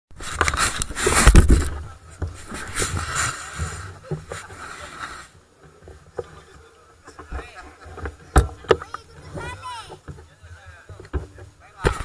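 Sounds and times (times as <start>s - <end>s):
rumbling and buffeting on microphone: 0.1s - 12.0s
rustling: 0.1s - 12.0s.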